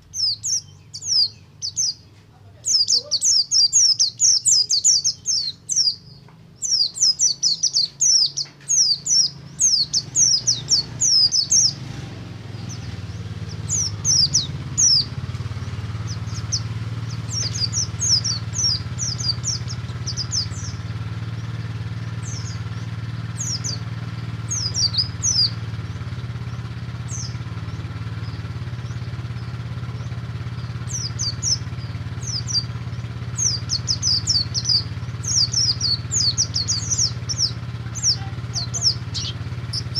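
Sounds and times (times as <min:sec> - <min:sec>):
bird singing fast chirps: 0:00.0 - 0:39.9
low engine-like hum: 0:00.0 - 0:39.9.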